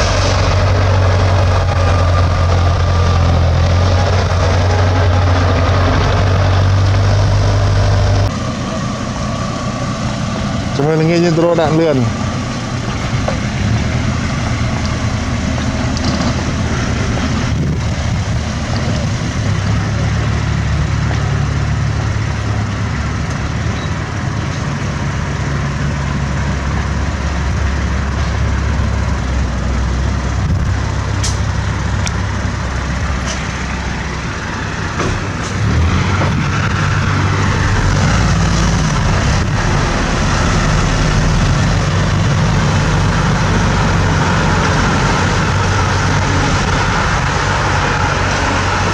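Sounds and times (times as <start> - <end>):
bulldozer diesel engine droning: 0.0 - 48.9.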